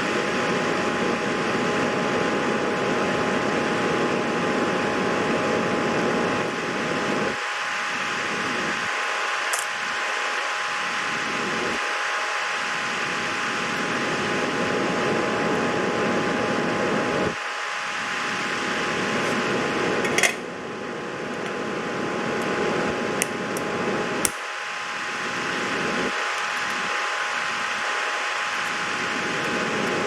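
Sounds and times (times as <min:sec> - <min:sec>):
fan whirring: 0:00.0 - 0:30.0.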